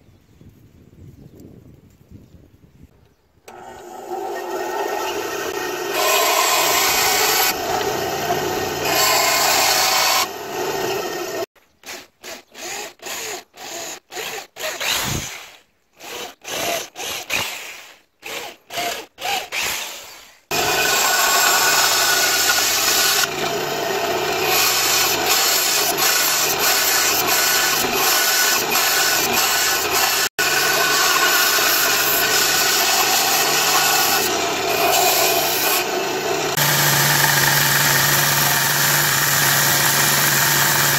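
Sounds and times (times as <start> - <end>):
band saw cutting wood: 3.5 - 40.9.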